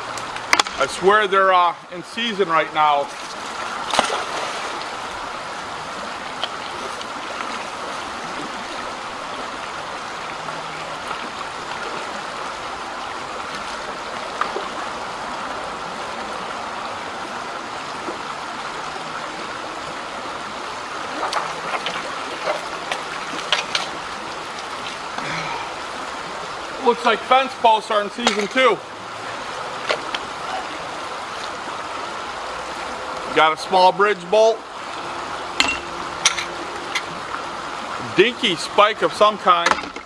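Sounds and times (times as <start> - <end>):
creek flowing over riffles: 0.0 - 40.0.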